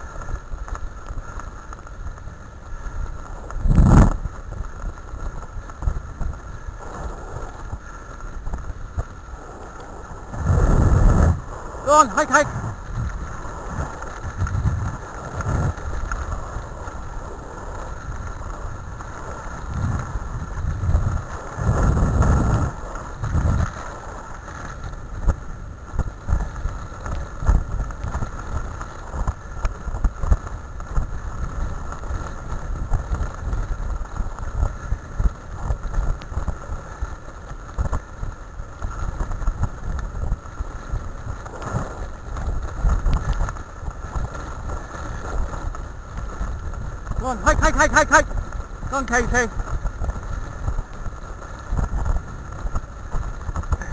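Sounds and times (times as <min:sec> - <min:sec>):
wheeled rig rattling on dirt trail: 0:00.0 - 0:53.9
wind buffeting microphone: 0:02.7 - 0:53.9.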